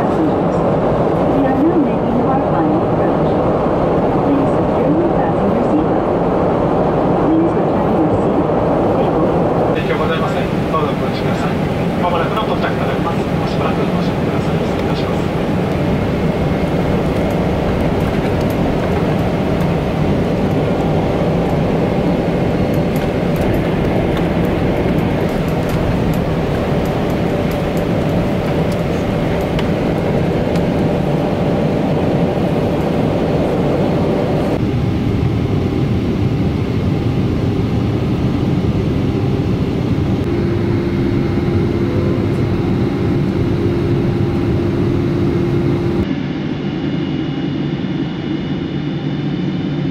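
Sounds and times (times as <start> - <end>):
airliner cabin engine rush: 0.0 - 49.9.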